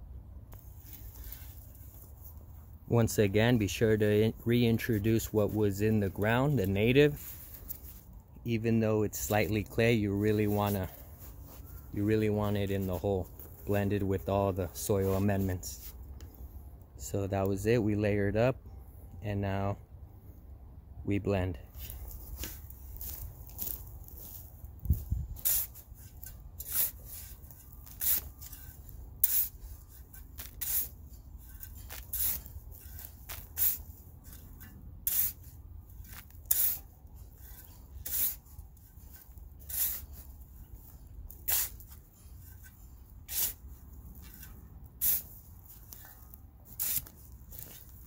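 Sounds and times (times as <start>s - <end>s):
shovel scraping soil: 0.6s - 16.0s, 21.7s - 48.0s.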